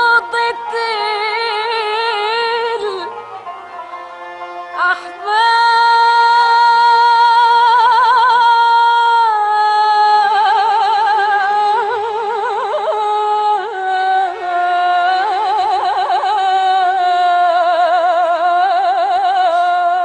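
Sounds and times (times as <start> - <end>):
woman singing with vibrato: 0.0 - 3.5, 4.7 - 20.0.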